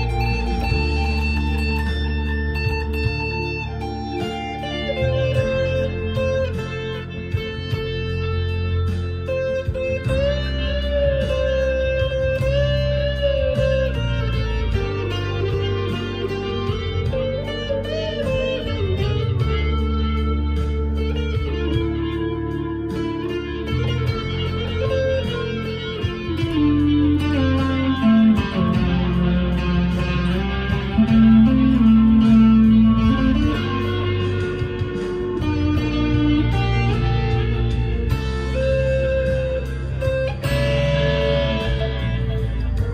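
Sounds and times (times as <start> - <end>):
electric guitar lead melody: 0.0 - 42.9.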